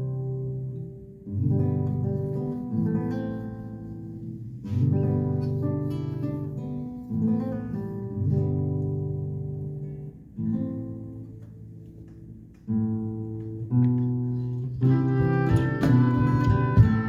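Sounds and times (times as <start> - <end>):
slow guitar chords: 0.0 - 17.0.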